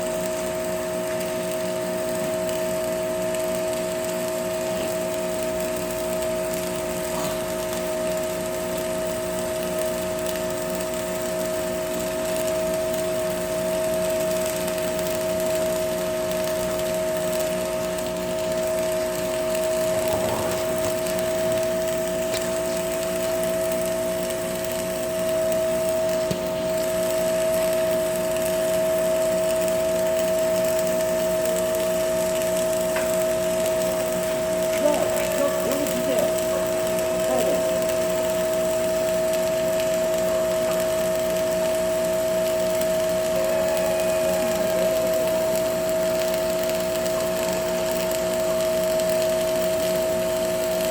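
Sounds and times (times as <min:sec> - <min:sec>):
arc welding buzzing hum: 0:00.0 - 0:50.9
faint welding crackle: 0:00.0 - 0:50.9.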